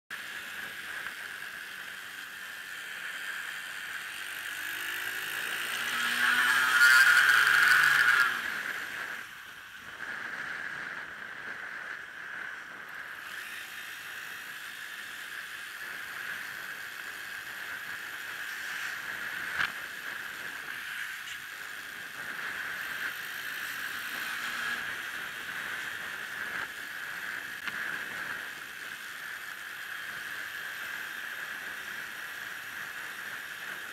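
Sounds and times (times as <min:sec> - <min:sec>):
bicycle high-pitched whir: 0:00.1 - 0:33.9.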